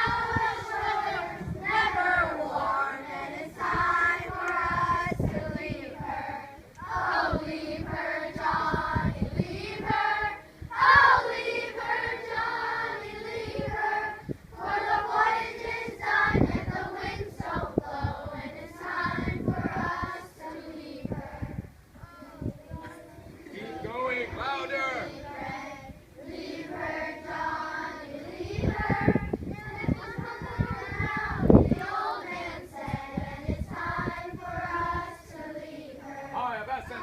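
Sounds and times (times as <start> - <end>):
children singing together: 0.0 - 23.9, 24.8 - 36.4.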